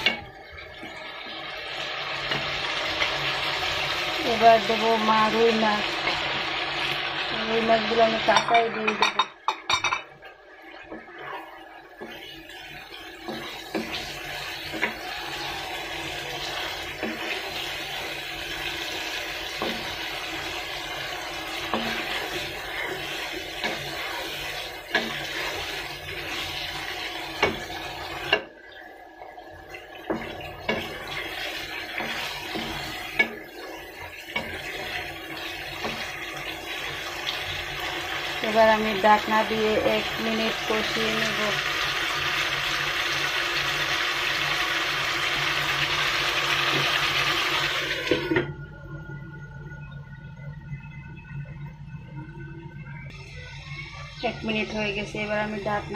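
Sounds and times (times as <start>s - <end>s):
fish sizzling in a wok: 0.0s - 28.5s, 29.3s - 48.4s.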